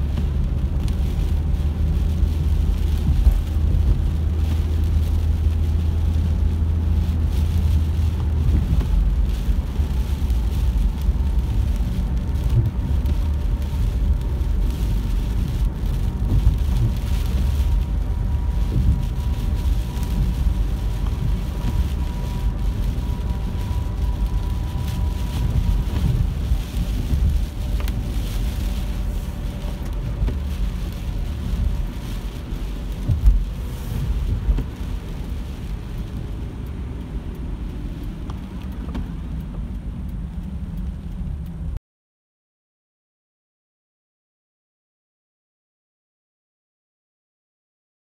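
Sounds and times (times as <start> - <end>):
car road and engine rumble: 0.0 - 41.8
rain hiss and tyre spray: 0.0 - 41.8.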